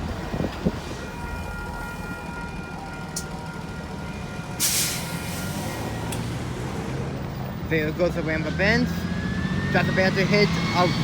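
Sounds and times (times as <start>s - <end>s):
diesel train rumbling past: 0.0s - 11.0s.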